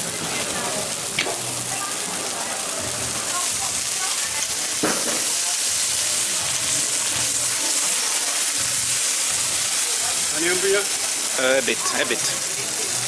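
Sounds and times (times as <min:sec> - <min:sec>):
burger patties sizzling on griddle: 0:00.0 - 0:13.0.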